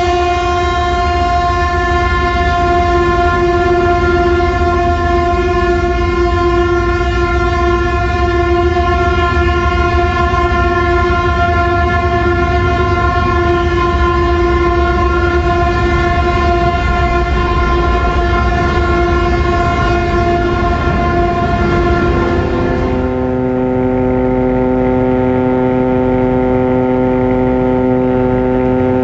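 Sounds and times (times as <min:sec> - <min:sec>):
horn long steady blast: 0:00.0 - 0:29.0
low rumble: 0:02.5 - 0:29.0.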